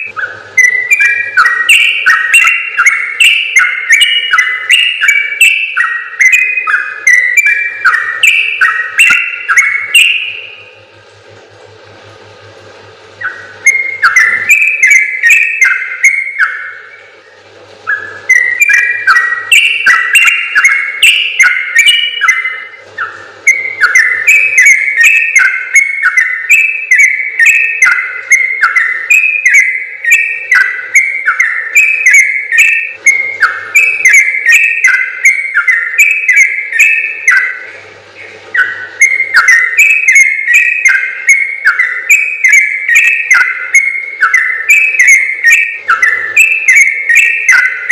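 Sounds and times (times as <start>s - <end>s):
bird singing whistled notes: 0.0s - 10.8s, 13.2s - 47.9s.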